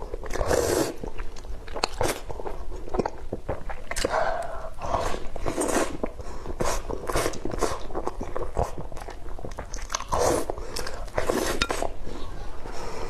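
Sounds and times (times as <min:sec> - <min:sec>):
chewing with wet mouth smacks: 0:00.0 - 0:04.5, 0:05.5 - 0:12.0.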